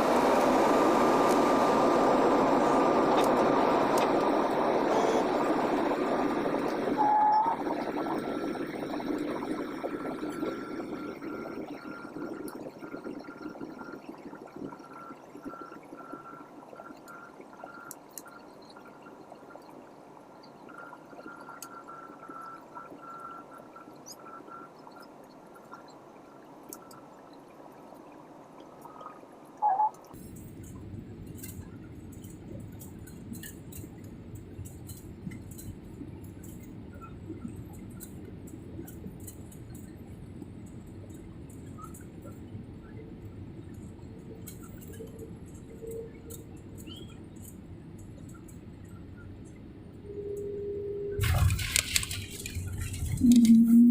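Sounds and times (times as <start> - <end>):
aircraft engine and airflow noise: 0.0 - 27.1, 28.8 - 53.9.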